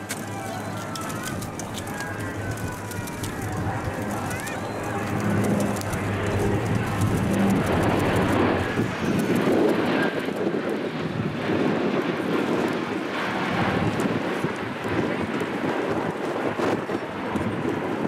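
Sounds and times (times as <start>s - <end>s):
turboprop aircraft flying overhead: 0.0s - 18.0s.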